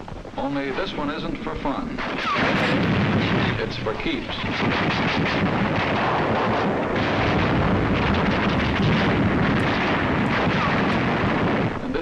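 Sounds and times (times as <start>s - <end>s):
explosions and rumble: 0.0s - 12.0s.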